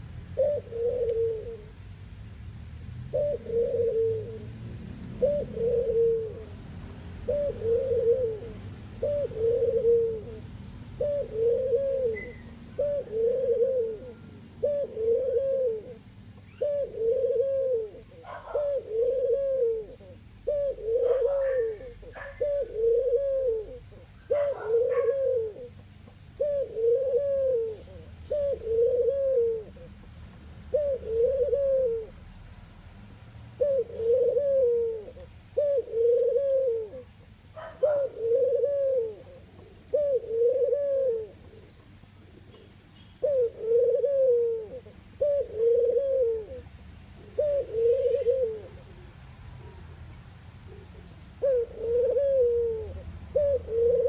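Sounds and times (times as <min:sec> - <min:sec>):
dove cooing: 0:00.4 - 0:01.8, 0:03.1 - 0:30.0, 0:30.6 - 0:32.3, 0:33.5 - 0:50.0, 0:50.6 - 0:54.0.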